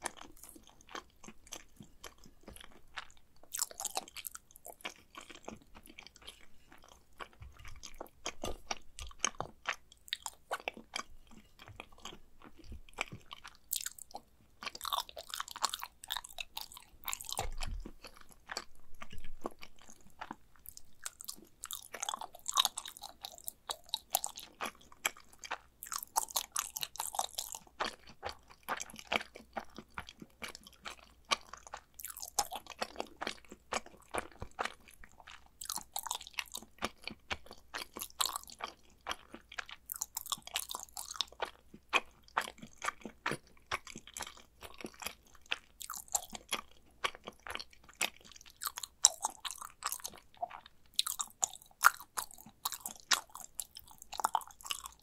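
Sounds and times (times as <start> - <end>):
close chewing with mouth clicks: 0.0 - 55.0.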